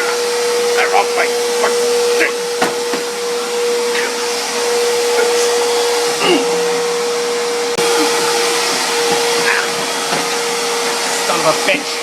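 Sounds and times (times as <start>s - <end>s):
motor-driven machine whining: 0.0s - 12.0s.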